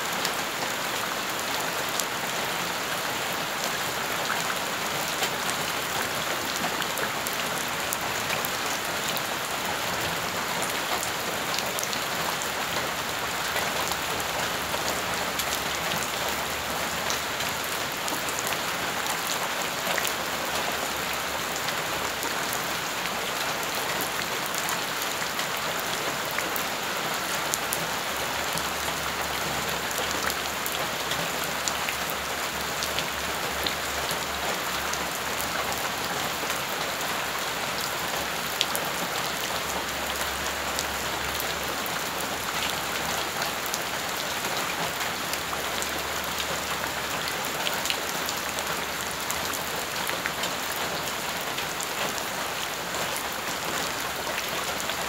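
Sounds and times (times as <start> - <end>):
rain falling on ground: 0.0 - 55.0.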